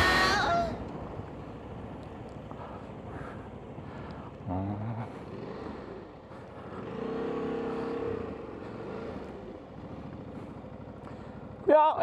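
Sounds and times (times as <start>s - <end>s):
motorcycle engines revving: 0.0s - 12.0s
road noise: 0.0s - 12.0s
wind: 0.0s - 12.0s.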